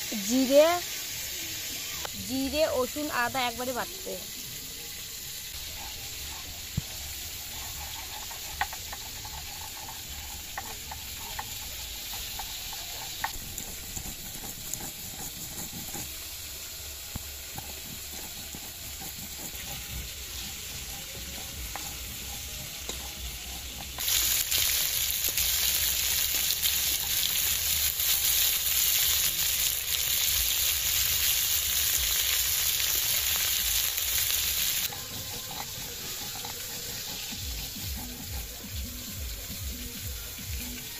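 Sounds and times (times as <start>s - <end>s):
fish sizzling in hot oil: 0.0s - 40.9s.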